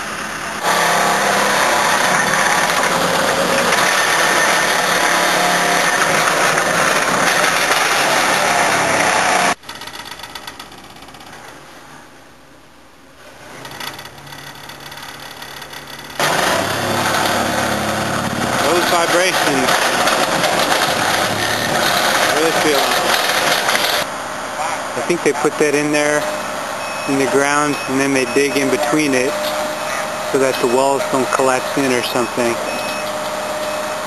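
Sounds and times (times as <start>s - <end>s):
excavator engine running: 0.0s - 9.9s, 13.5s - 34.0s
vibratory compactor pounding ground: 0.6s - 10.8s, 13.6s - 24.1s, 25.0s - 34.0s.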